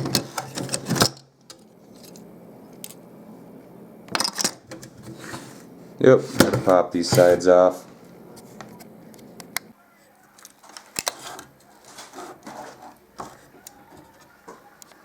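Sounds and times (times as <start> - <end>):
handling noise: 0.0 - 3.2, 4.0 - 15.0.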